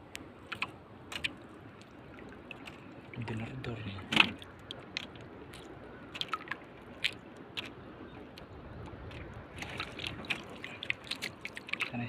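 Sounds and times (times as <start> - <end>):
sea wash: 0.0 - 12.0
wind: 0.0 - 12.0.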